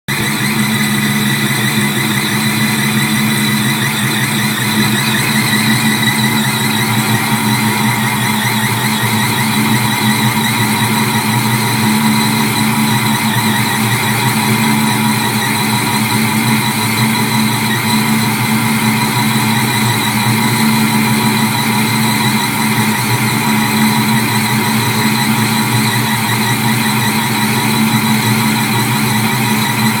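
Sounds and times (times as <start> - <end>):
supercharged engine idling: 0.1 - 30.0.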